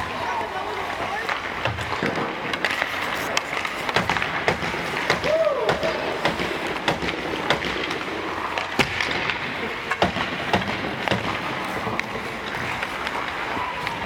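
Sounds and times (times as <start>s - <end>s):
hockey sticks striking pucks: 0.0s - 14.0s
ice rink background noise: 0.0s - 14.0s
pucks clacking off boards: 0.0s - 14.0s.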